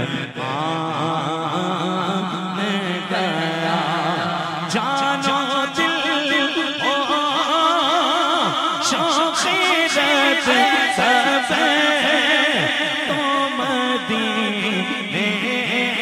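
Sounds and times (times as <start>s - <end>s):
man singing lead vocal: 0.0s - 16.0s.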